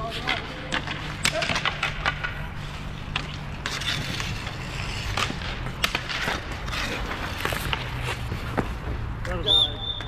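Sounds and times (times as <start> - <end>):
skate wheels rolling on rink: 0.0 - 10.0
sticks and puck clacking: 0.0 - 10.0.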